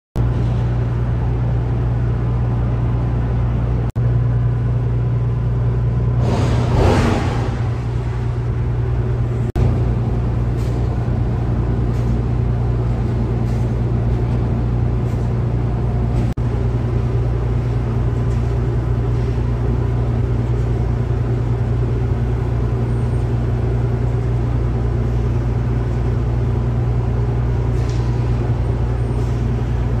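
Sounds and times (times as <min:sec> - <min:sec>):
ship machinery droning: 0:00.2 - 0:30.0.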